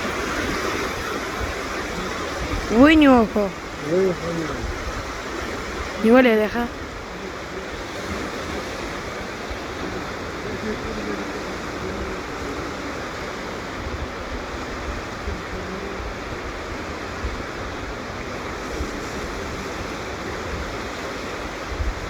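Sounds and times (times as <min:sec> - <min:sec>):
rushing water: 0:00.0 - 0:22.0
wind rumbling on microphone: 0:00.0 - 0:22.0.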